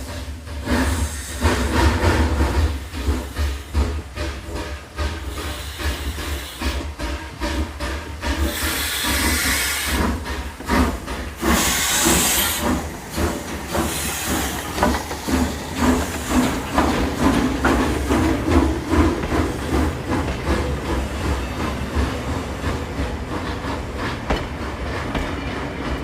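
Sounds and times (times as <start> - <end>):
steam hissing bursts: 0.0 - 25.1
steam locomotive chuffing: 0.0 - 26.0.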